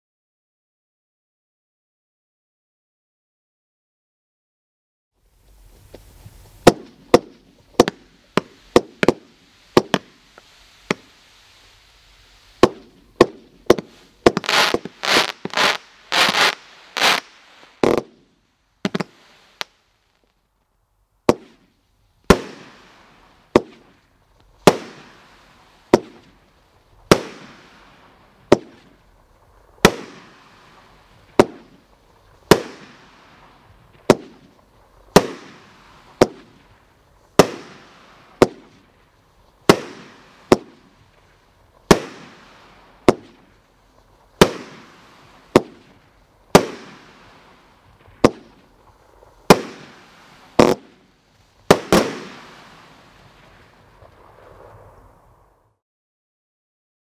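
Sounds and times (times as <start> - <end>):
fireworks bangs: 5.6 - 20.4, 21.2 - 55.7.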